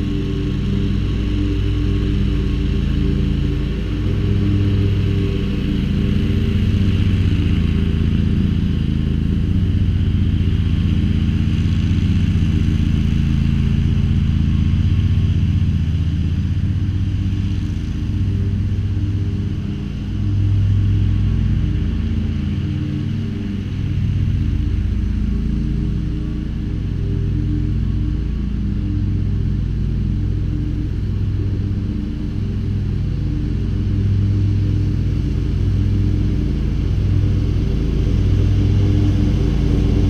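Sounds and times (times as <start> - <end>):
mower engine running: 0.0 - 40.0.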